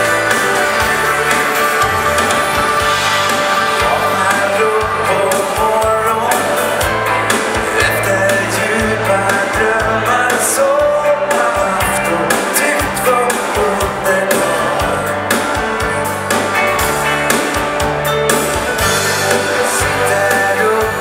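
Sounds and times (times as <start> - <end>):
person singing: 0.0 - 17.0, 18.3 - 21.0
dance band playing live: 0.0 - 21.0.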